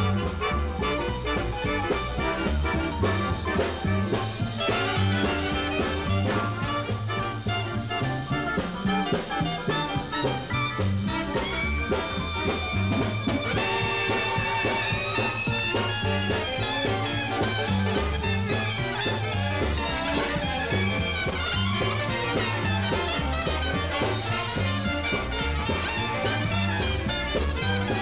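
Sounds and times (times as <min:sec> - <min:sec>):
swing band playing: 0:00.0 - 0:28.0.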